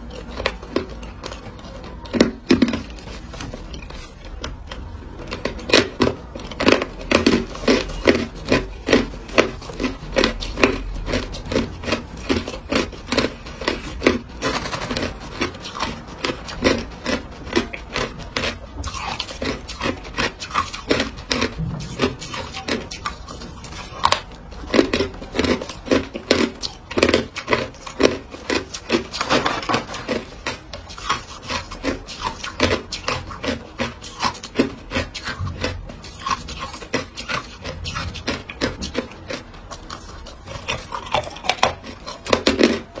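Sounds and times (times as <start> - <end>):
ice being chewed: 0.0 - 43.0.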